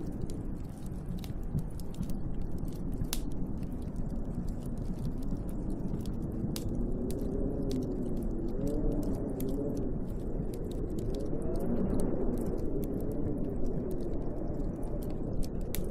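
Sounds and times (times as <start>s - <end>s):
snowstorm wind howling: 0.0s - 15.9s.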